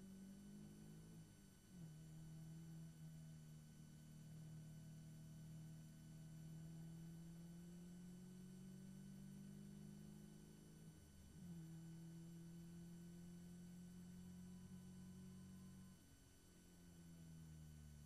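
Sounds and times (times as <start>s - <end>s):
faint race car engine accelerating: 0.0s - 18.0s.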